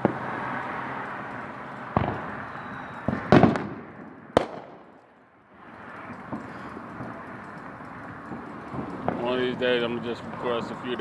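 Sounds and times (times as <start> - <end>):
sharp crack: 0.0 - 10.6
fireworks banging: 0.0 - 11.0.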